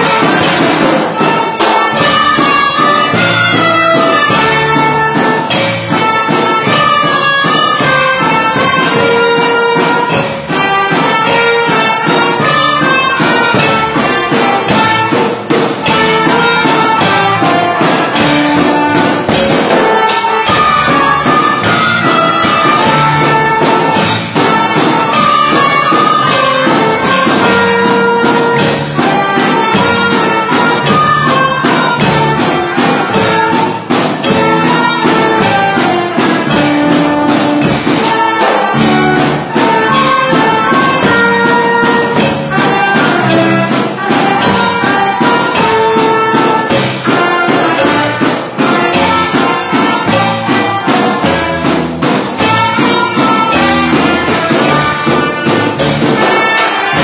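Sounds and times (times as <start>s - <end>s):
soprano recorders playing melody: 0.0s - 51.8s, 52.4s - 57.0s
drum and percussion beat: 0.0s - 57.0s.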